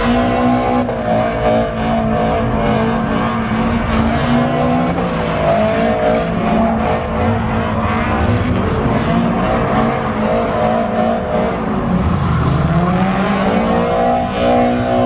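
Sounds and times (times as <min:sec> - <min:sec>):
car engine revving high: 0:00.0 - 0:15.0.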